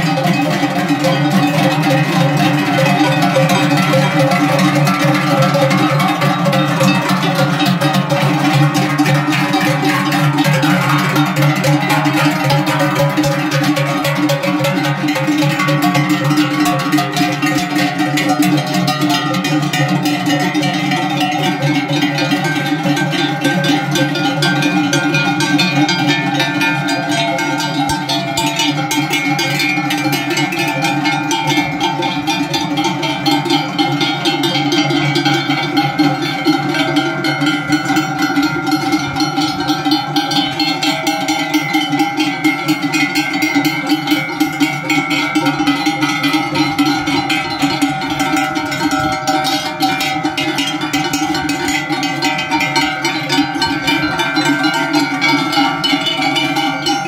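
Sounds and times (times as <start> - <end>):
cowbells clanging: 0.0 - 57.0.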